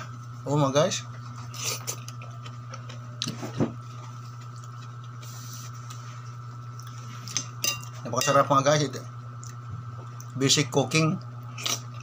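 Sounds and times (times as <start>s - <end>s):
electrical appliance hum: 0.0s - 12.0s.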